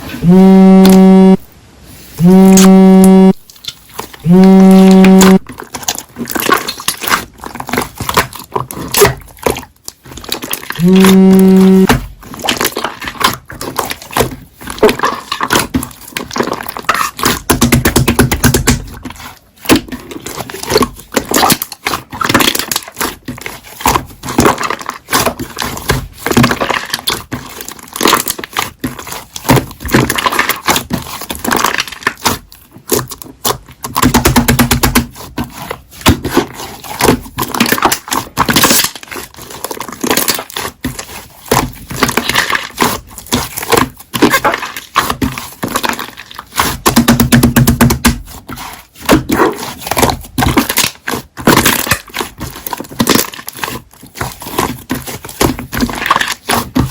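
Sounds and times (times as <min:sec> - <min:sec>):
hands squishing slime: 0:03.5 - 0:56.9.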